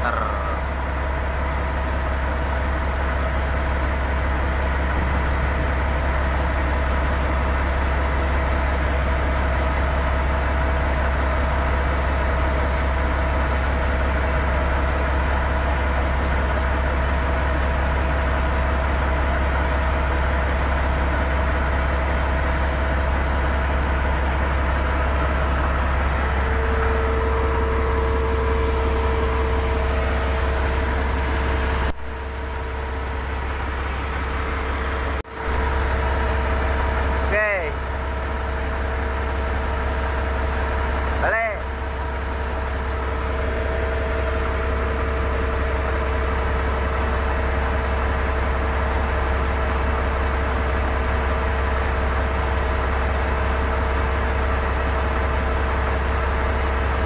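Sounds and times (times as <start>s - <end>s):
heavy diesel engine drone: 0.0s - 57.0s
steady higher whine: 0.0s - 57.0s.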